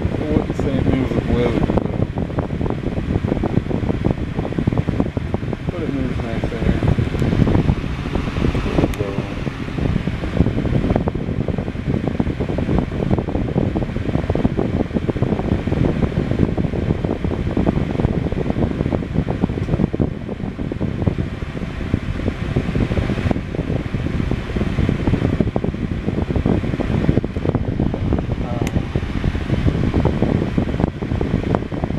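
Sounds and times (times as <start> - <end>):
desk fan running: 0.0 - 31.9.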